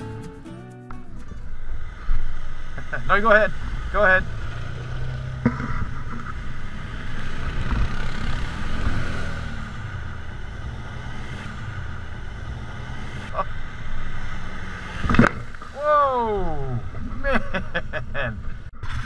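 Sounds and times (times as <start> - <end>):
quad engines running: 1.4 - 19.0.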